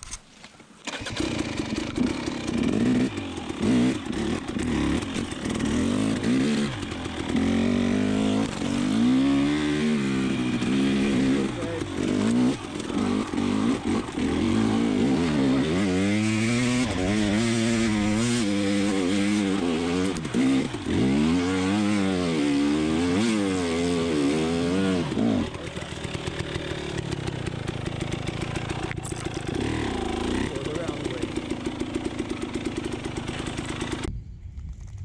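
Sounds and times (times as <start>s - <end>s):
dirt bike engine revving and idling: 0.8s - 34.1s.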